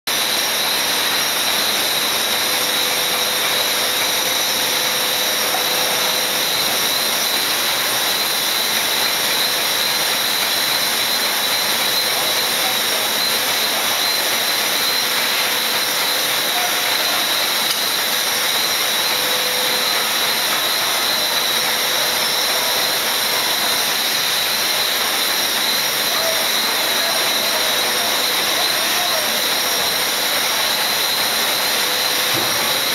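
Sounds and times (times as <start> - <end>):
casting machine hiss and drone: 0.1 - 32.9.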